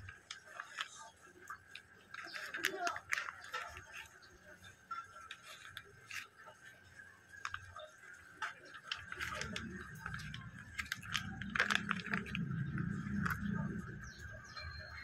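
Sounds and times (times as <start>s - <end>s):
plastic bag crinkling: 0.0s - 14.3s.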